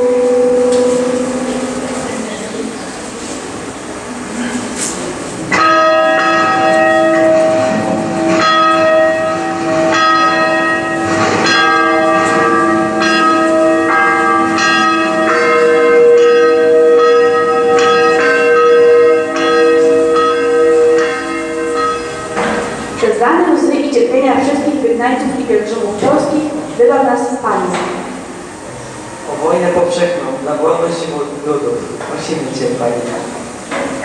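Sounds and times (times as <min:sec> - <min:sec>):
church bells ringing: 0:00.0 - 0:04.2, 0:05.4 - 0:33.6.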